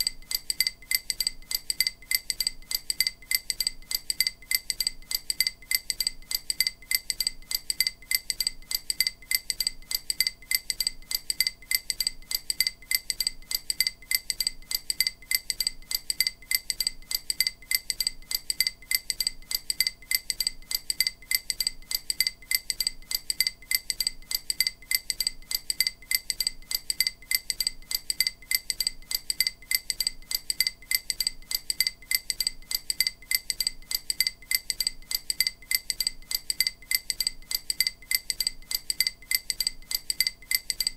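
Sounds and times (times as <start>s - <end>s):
bright bell-like clicks: 0.0s - 40.9s.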